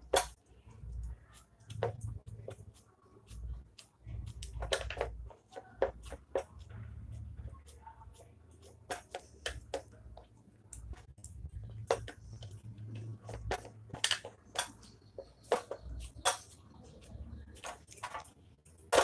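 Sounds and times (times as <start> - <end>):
fingers patting paste on a plate: 0.0 - 19.0.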